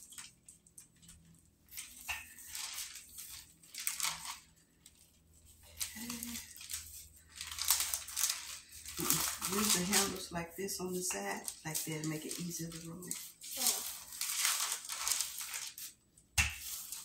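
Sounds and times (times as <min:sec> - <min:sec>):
parchment paper crinkling: 0:00.0 - 0:17.0.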